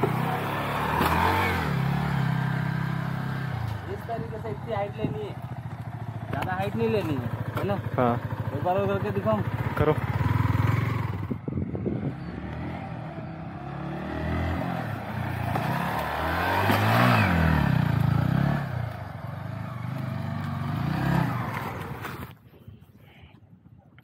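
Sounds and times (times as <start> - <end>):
motorcycle engine passing: 0.0 - 22.3.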